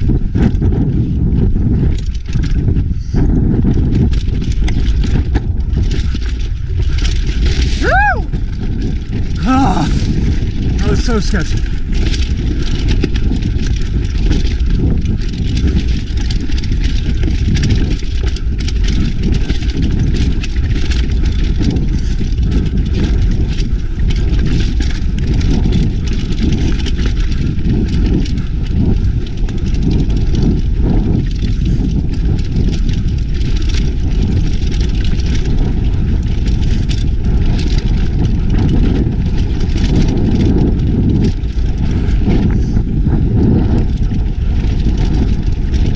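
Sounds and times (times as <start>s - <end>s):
bike clicks and rattles: 0.0s - 45.9s
wind and tyres rumbling: 0.0s - 45.9s.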